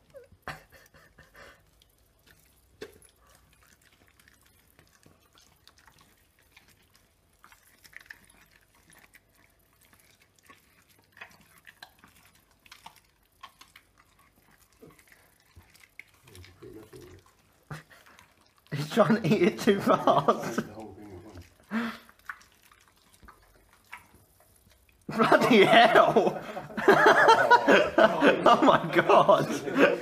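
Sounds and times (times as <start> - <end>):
dog chewing and licking meat: 0.0 - 29.6.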